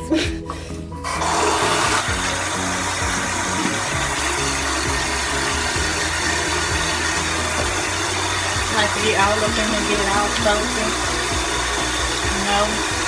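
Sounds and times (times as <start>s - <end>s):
background music: 0.0s - 13.0s
tap water running into sink: 1.0s - 13.0s.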